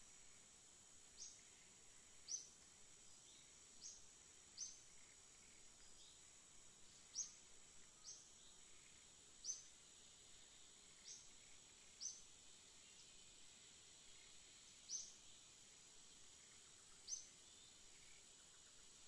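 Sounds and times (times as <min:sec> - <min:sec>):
high insect buzz: 0:00.0 - 0:19.0
small bird chirping: 0:01.0 - 0:13.4, 0:14.1 - 0:19.0.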